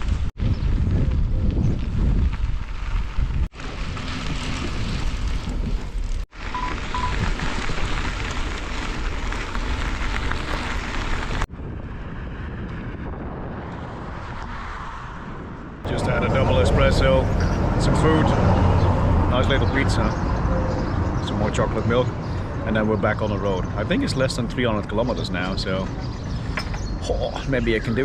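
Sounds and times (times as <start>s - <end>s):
wind buffeting microphone: 0.0s - 6.2s, 6.8s - 28.0s.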